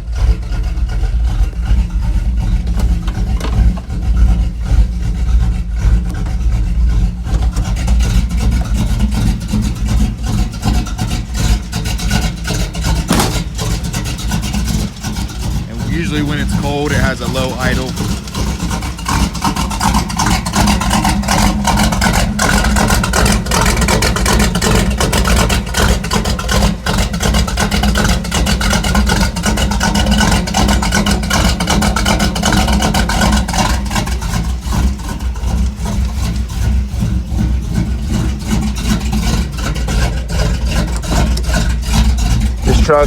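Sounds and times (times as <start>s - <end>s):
engine idling low: 0.0s - 43.0s.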